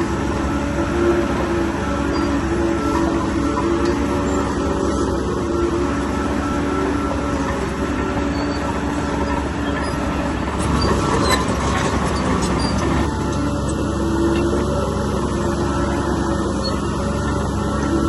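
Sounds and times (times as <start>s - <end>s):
diesel engine droning: 0.0s - 18.0s
steel tracks squealing and clanking: 0.0s - 18.0s.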